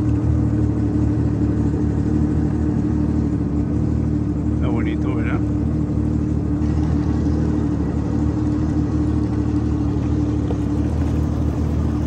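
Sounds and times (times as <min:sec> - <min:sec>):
jet ski engine droning: 0:00.0 - 0:12.0.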